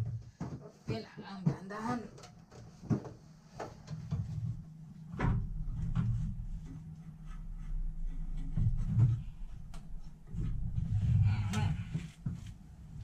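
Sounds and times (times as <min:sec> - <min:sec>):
low rumbling handling noise: 0:01.6 - 0:13.0.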